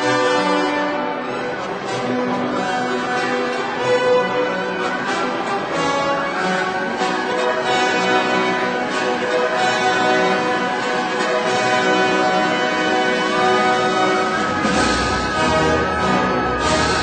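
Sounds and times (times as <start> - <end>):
orchestral music: 0.0 - 17.0.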